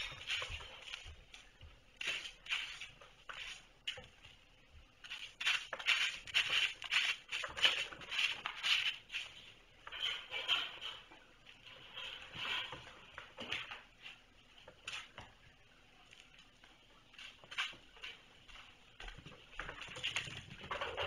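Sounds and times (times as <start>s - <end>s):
kittens' paws pattering on a rug: 0.0s - 9.7s, 12.4s - 21.0s.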